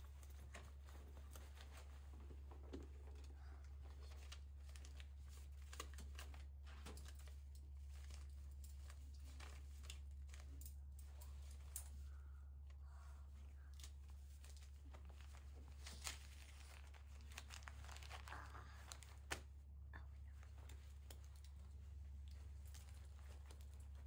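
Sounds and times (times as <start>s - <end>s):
banknotes and handbag rustling: 0.0s - 12.4s, 13.5s - 19.6s, 20.2s - 24.0s
steady low hum: 0.0s - 24.0s.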